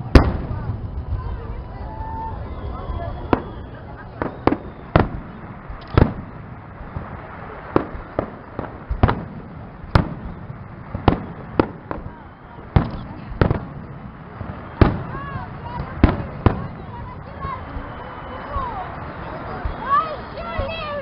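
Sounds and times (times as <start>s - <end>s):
background rumble: 0.0s - 21.0s
firework bursts banging: 0.0s - 21.0s.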